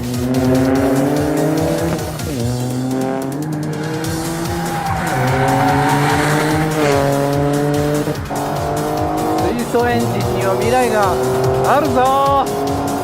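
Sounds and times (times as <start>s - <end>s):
car engine pulling hard: 0.0s - 13.0s.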